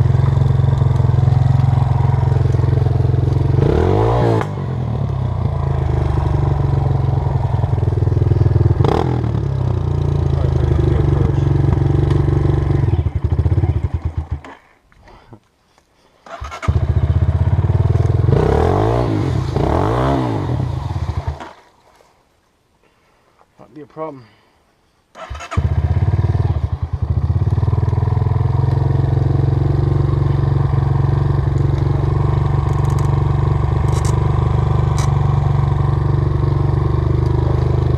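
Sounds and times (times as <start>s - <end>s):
dirt bike engine revving: 0.0s - 14.6s, 16.2s - 21.6s, 25.1s - 37.9s.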